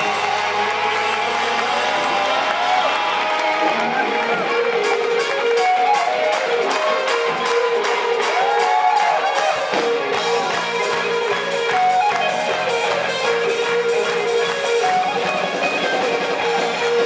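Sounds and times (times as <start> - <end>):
hand-clapping in time: 0.0 - 17.0
live polka-rock band playing: 0.0 - 17.0.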